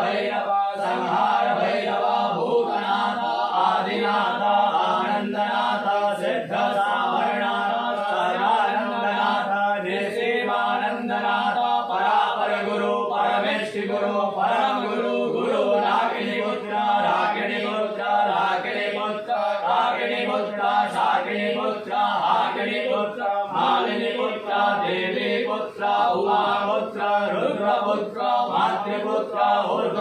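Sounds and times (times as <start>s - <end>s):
voices chanting: 0.0s - 30.0s.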